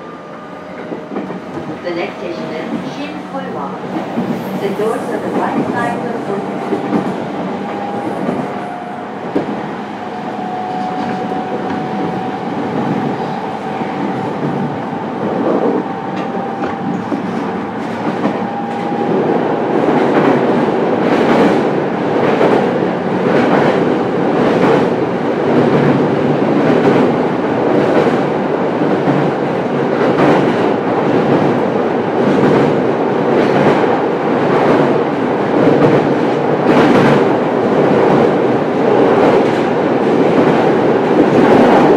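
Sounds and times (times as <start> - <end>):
train running noise: 0.0 - 41.9.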